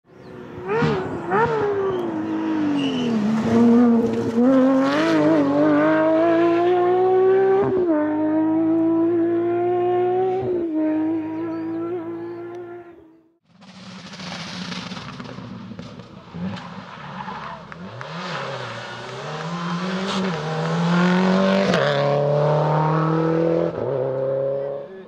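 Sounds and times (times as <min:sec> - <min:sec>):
rally car engine revving: 0:00.2 - 0:13.1, 0:14.7 - 0:25.0.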